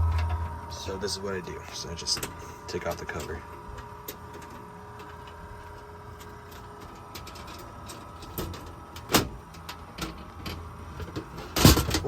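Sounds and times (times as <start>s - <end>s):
computer cooling fan hum and whine: 0.0s - 12.0s.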